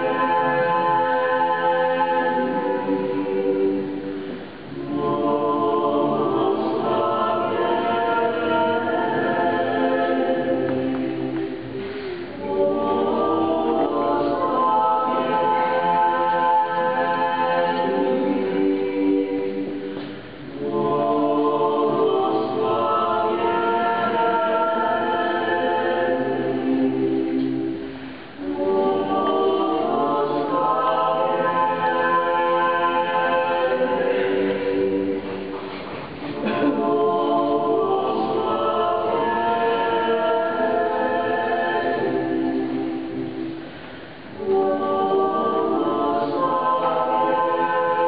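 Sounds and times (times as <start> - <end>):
choir singing a hymn: 0.0 - 48.0.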